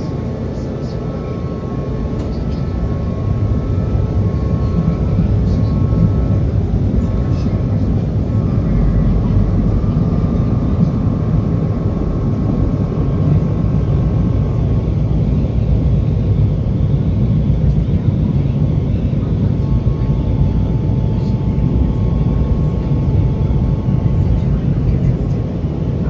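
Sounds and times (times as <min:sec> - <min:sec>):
faint whine: 0:00.0 - 0:26.0
trolley rumbling on rails: 0:00.0 - 0:26.0.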